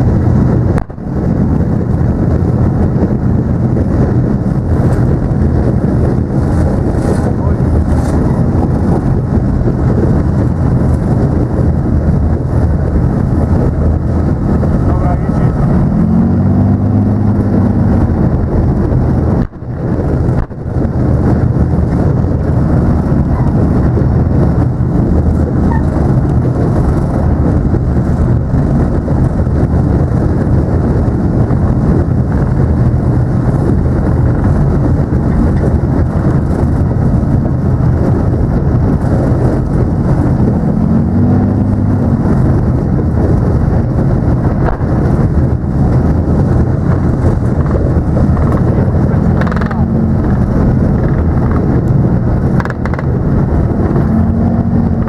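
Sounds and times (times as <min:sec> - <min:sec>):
heavy vehicle engine rumble: 0:00.0 - 0:55.0
wind buffeting microphone: 0:00.0 - 0:55.0.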